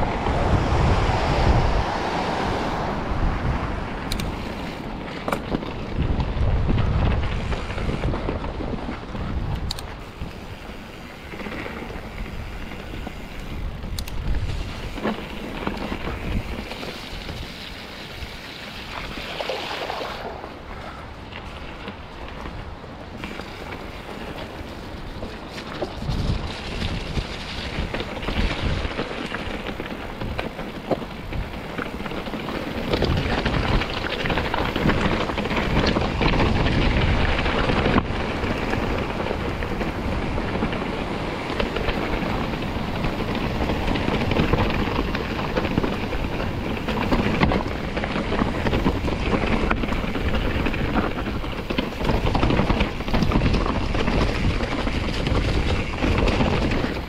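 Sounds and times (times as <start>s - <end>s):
bike rolling on trail: 0.0s - 57.0s
wind buffeting microphone: 0.0s - 57.0s.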